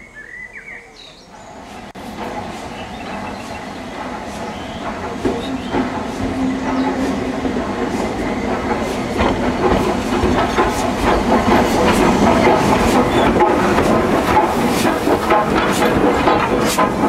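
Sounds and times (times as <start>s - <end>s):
train wheels rumbling on rails: 0.7s - 17.0s
wheels clicking over rail joints: 1.9s - 17.0s.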